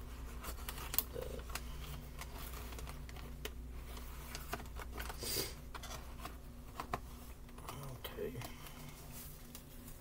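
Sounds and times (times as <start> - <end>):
low steady hum: 0.0 - 10.0
packet rustling: 0.0 - 10.0.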